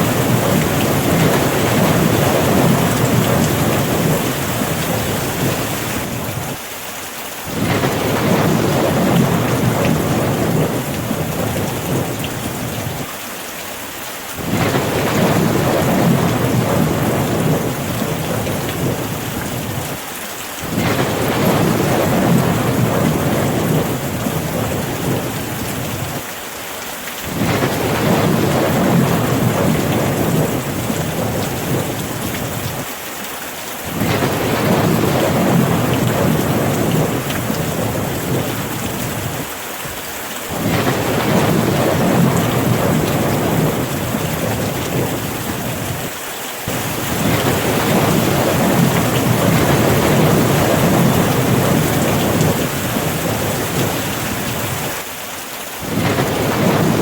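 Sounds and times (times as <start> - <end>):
thunder rumbling: 0.0 - 6.6, 7.5 - 13.1, 14.4 - 20.0, 20.6 - 26.2, 27.3 - 32.9, 33.9 - 39.5, 40.5 - 46.1, 46.7 - 55.0, 55.8 - 57.0
steady rain: 0.0 - 57.0.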